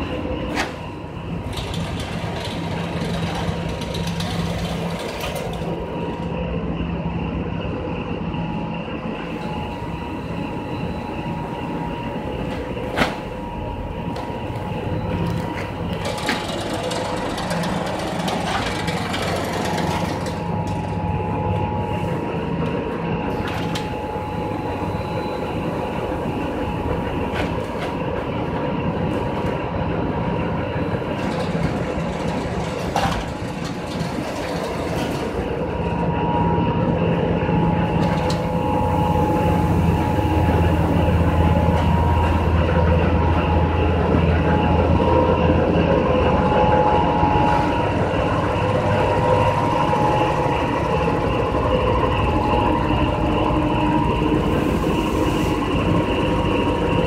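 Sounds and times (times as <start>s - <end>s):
machinery low hum: 0.0s - 57.0s
high whining tones: 4.8s - 57.0s.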